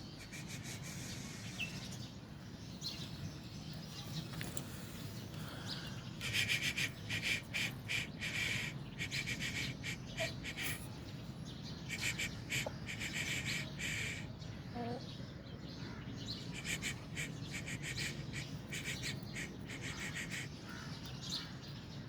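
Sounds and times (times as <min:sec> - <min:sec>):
bird chirps: 0:02.7 - 0:22.0.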